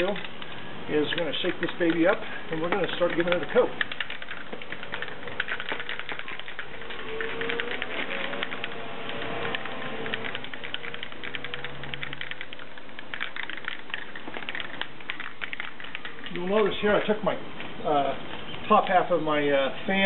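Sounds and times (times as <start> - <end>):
spray can rattling when shaken: 0.0 - 16.9.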